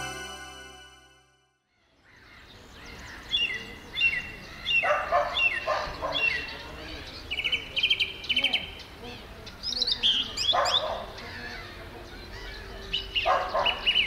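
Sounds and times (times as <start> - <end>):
songbirds chirping: 1.8 - 14.0.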